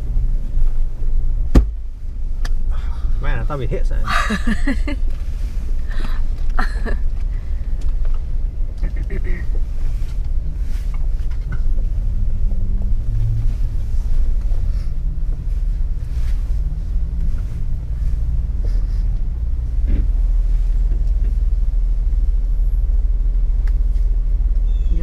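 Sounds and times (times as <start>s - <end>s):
engine rumbling low: 0.0s - 25.0s.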